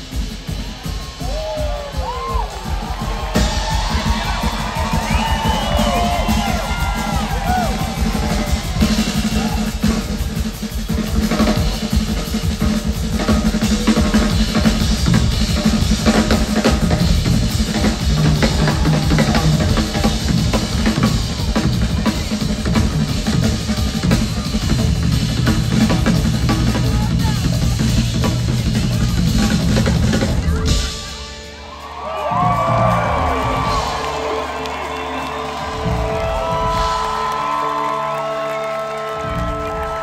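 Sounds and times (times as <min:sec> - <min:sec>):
drum kits playing rapidly: 0:00.0 - 0:40.0.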